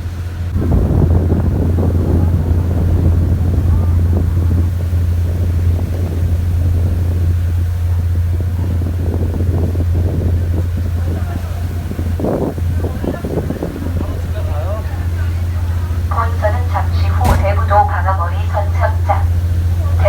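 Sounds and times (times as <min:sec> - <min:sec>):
engine droning: 0:00.0 - 0:20.0
wind buffeting microphone: 0:00.0 - 0:20.0.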